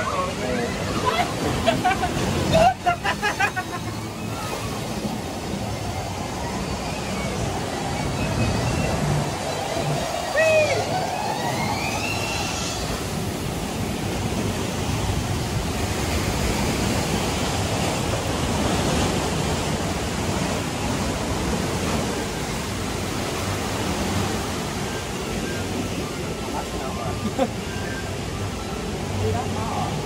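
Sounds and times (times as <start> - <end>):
water rushing and churning: 0.0 - 30.0.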